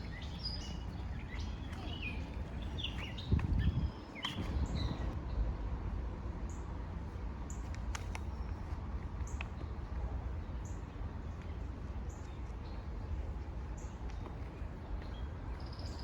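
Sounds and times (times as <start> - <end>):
songbirds chirping: 0.0 - 5.4, 7.4 - 16.0
steady low rumble: 0.0 - 16.0.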